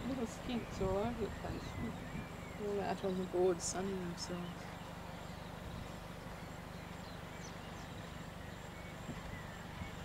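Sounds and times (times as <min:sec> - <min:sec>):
outdoor background noise: 0:00.0 - 0:10.0
faint bird chirps: 0:00.1 - 0:10.0.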